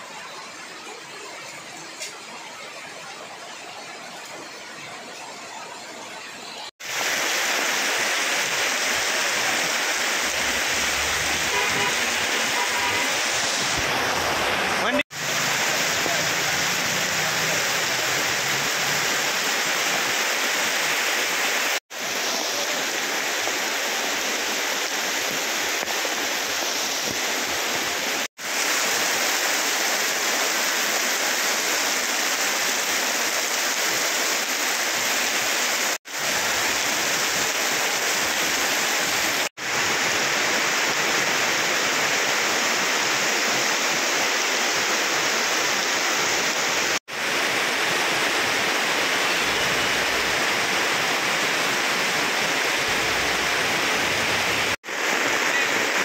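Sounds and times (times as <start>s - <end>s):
heavy rain on a street: 0.0s - 56.0s.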